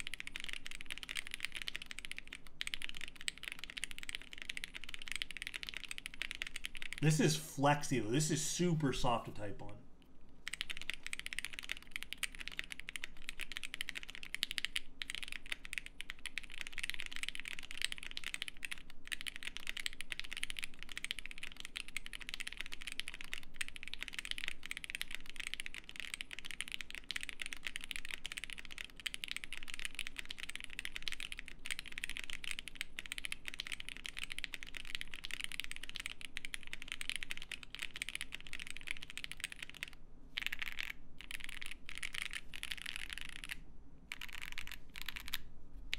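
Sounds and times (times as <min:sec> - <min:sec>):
mechanical keyboard typing: 0:00.0 - 0:07.0, 0:10.4 - 0:45.4.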